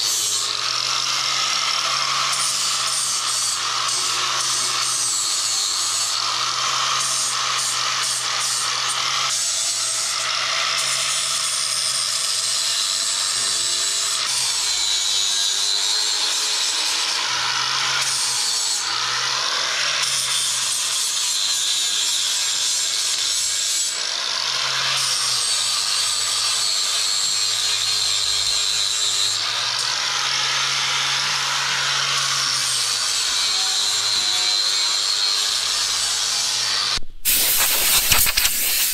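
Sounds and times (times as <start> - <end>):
angle grinder grinding steel: 0.0 - 38.9.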